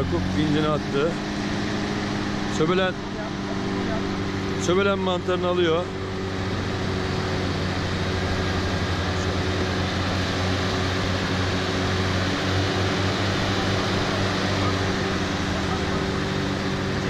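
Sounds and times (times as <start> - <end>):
engine and winch drone: 0.0 - 17.0.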